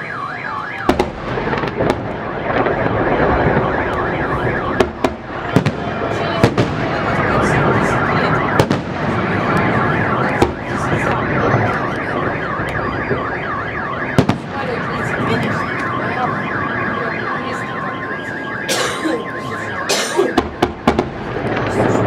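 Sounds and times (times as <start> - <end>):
car alarms wailing: 0.0 - 22.0
firework bangs: 0.7 - 16.9, 19.6 - 22.0.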